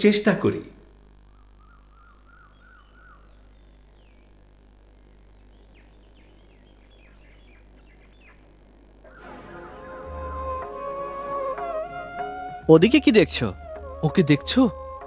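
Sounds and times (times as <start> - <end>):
low steady hum: 0.0 - 15.0
faint birds chirping: 0.7 - 15.0.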